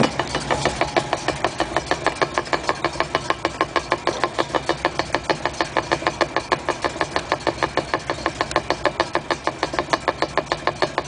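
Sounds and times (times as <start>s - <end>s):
car engine rumbling: 0.0s - 11.0s
rapid driveline clicking: 0.0s - 11.0s.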